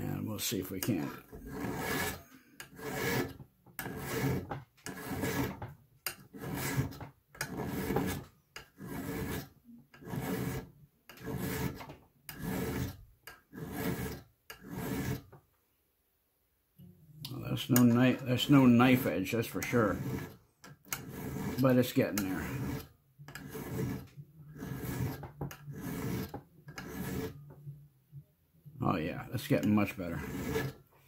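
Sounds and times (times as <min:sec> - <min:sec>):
hand file rasping on steel: 0:00.4 - 0:15.4, 0:17.5 - 0:27.6, 0:29.1 - 0:30.9.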